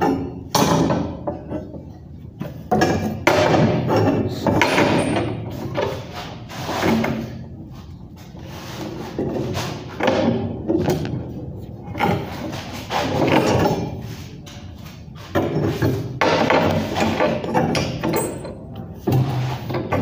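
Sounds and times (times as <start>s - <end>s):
metal bar clanking and scraping: 0.0s - 20.0s.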